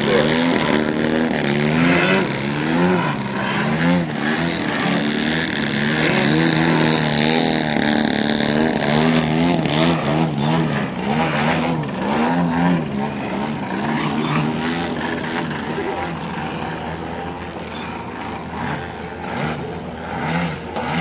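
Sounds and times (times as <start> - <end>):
model airplane engine: 0.0 - 21.0.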